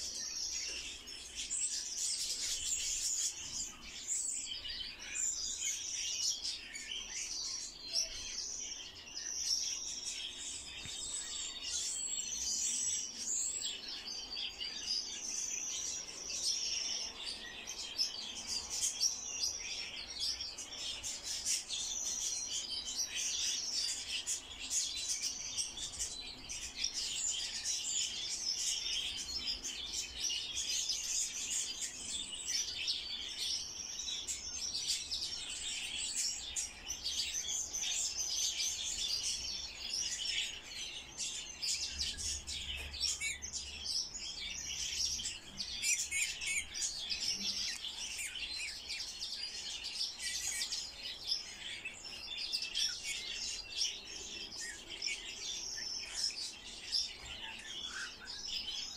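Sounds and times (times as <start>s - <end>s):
songbird chirping: 0.0s - 58.9s.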